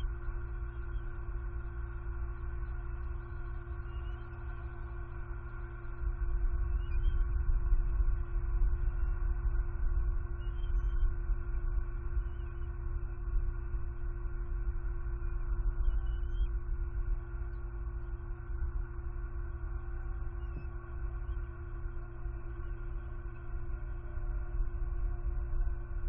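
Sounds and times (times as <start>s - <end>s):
steady tonal hum: 0.0s - 26.0s.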